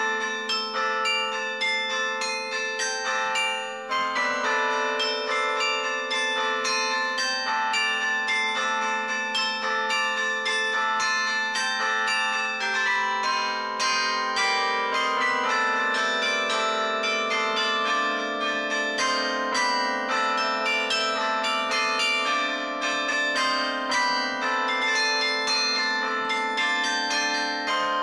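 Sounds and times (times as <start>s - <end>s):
carillon bell melody: 0.0s - 28.0s.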